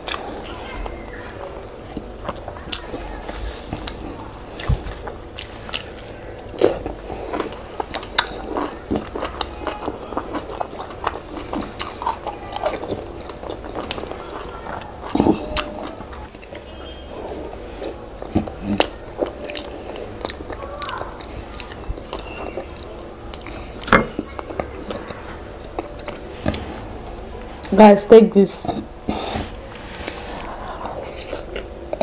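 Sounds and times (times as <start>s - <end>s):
person chewing: 0.0s - 27.8s, 29.1s - 32.0s.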